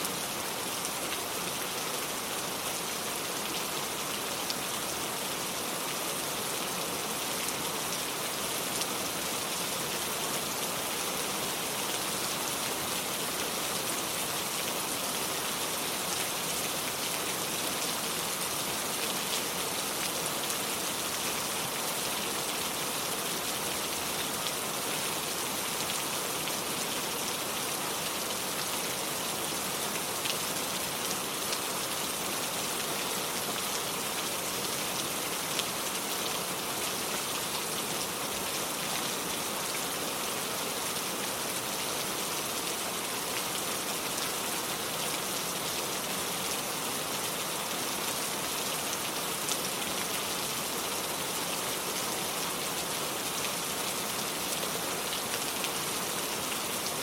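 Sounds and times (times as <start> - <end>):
rain on hard ground: 0.0 - 57.0.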